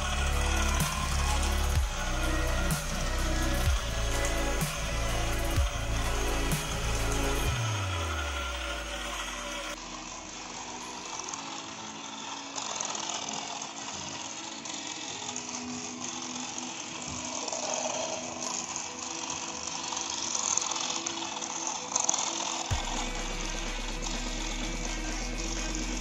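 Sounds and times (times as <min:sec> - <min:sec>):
background music: 0:00.0 - 0:26.0
toy car motor whirring: 0:00.0 - 0:26.0.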